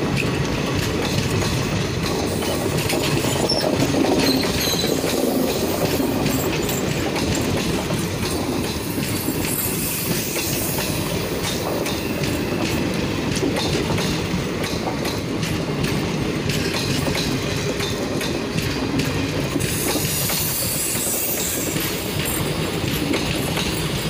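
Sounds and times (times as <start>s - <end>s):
wheels clattering over rail joints: 0.0s - 20.7s
train coaches rumbling past: 0.0s - 24.0s.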